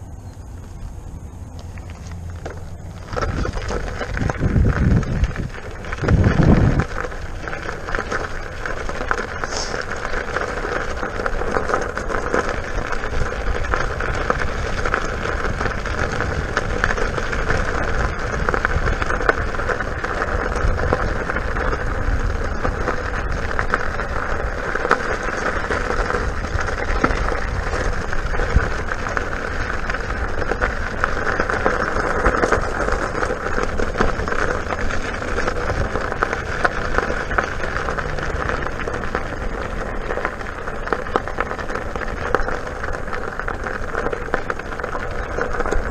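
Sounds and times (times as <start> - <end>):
tyre rolling over gravel: 0.0 - 45.9
wind rumble on microphone: 0.0 - 45.9.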